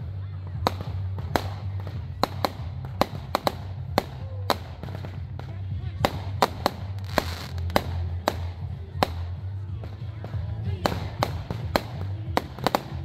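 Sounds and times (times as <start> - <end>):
fireworks bangs: 0.4 - 13.0.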